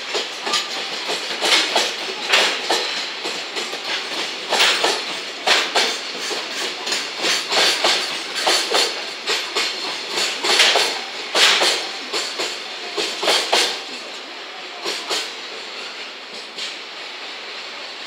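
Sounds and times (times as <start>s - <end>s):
train wheels clacking over rail joints: 0.0s - 17.0s
train rumbling: 0.0s - 18.0s.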